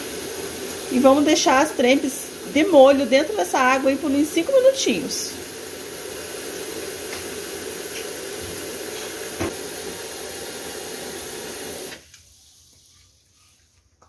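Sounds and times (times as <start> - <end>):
water running from a tap: 0.0 - 13.2.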